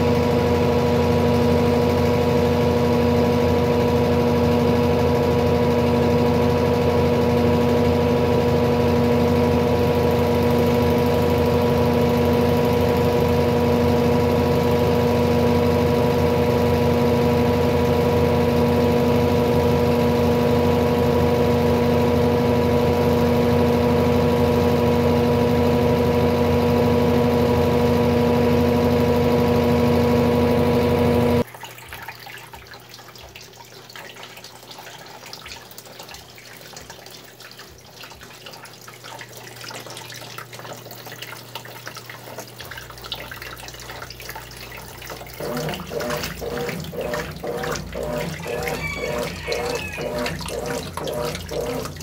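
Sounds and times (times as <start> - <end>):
agitator churning clothes in water: 0.0 - 52.0
running water in tub: 0.0 - 52.0
washing machine motor hum: 0.0 - 52.0.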